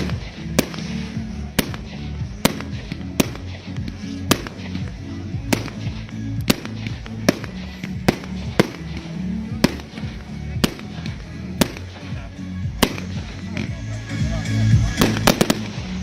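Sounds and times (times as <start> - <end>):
fireworks bangs: 0.0 - 13.9, 14.9 - 16.0
music with low bass: 0.0 - 16.0.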